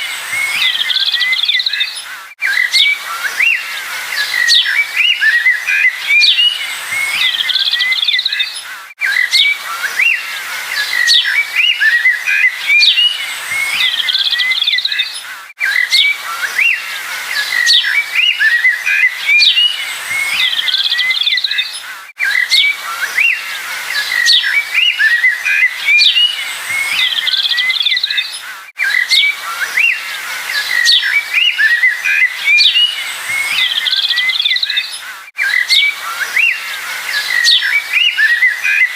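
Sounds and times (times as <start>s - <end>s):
birds chirping chorus: 0.0s - 38.9s.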